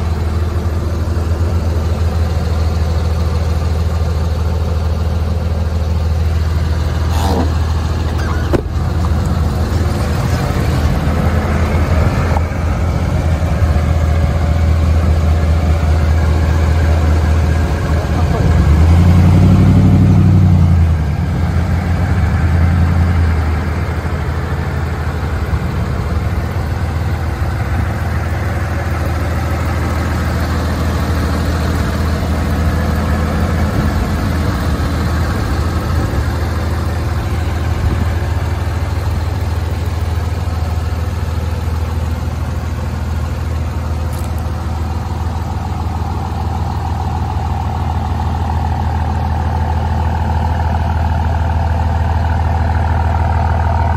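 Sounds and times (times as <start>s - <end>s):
truck engine idling: 0.0s - 53.9s.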